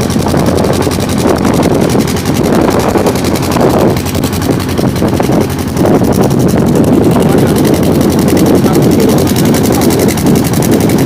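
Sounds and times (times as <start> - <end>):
boat engine running: 0.0 - 11.0
wind rumbling on microphone: 0.0 - 11.0.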